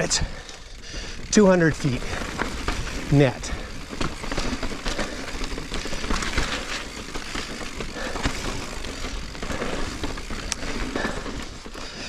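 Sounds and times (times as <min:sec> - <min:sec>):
bike rattles and knocks: 0:00.0 - 0:12.0
bike tyres on dirt trail: 0:00.0 - 0:12.0.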